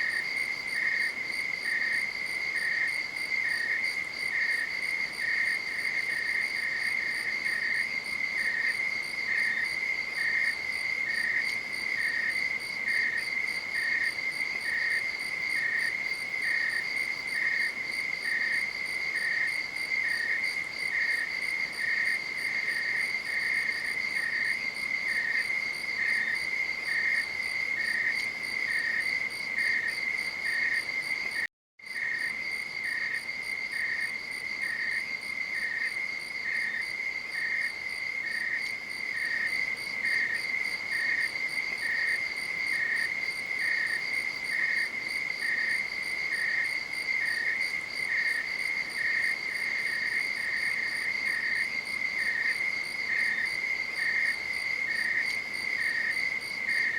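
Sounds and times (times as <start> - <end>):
crickets trilling: 0.0 - 56.9
lower cricket chirp: 0.0 - 56.9.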